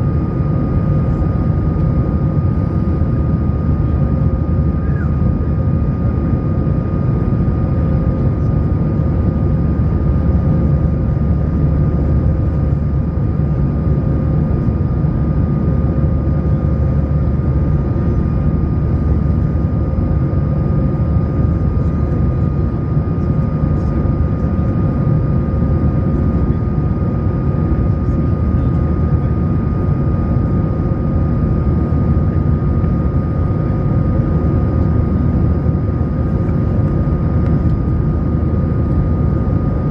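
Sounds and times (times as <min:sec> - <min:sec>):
jet cabin rumble: 0:00.0 - 0:39.9
jet engine high whine: 0:00.0 - 0:39.9.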